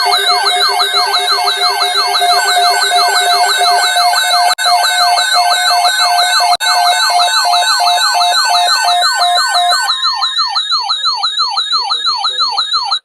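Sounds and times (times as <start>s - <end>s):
electronic siren falling sweeps: 0.0s - 12.4s
fast high siren warble: 0.0s - 13.0s
pulsing steady siren tone: 0.0s - 13.0s.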